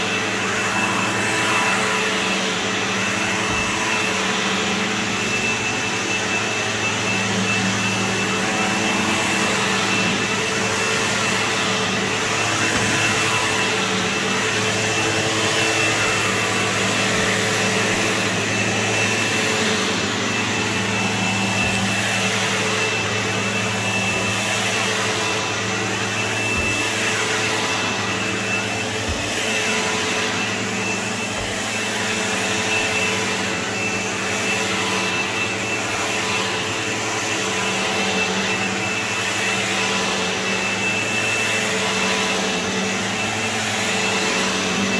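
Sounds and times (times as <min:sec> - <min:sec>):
vacuum cleaner running on carpet: 0:00.0 - 0:44.9.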